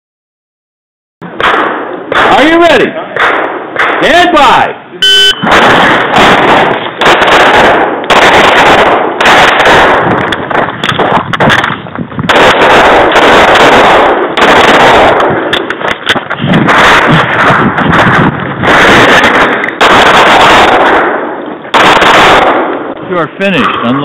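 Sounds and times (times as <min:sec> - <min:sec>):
pistol shots: 0:01.2 - 0:23.0.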